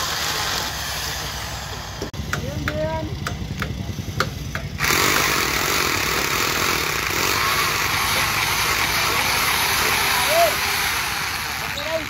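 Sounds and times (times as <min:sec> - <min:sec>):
low engine rumble: 0:00.0 - 0:12.0
rotary hammer drilling concrete: 0:00.0 - 0:12.0.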